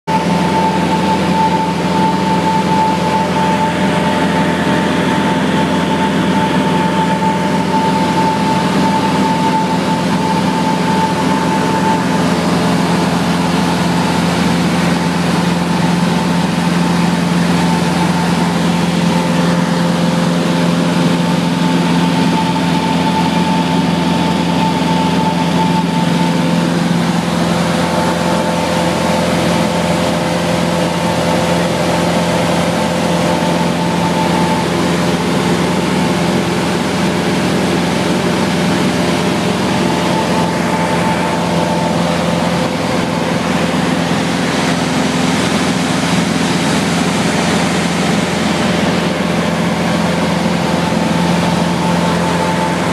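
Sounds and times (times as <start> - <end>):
high-pitched whine: 0.0 - 52.9
propeller plane engine droning: 0.0 - 52.9.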